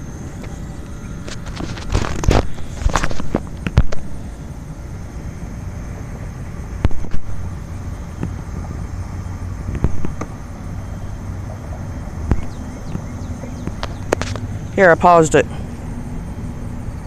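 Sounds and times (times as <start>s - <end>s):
wind rumbling on microphone: 0.0s - 14.8s
faint high whine: 0.0s - 17.0s.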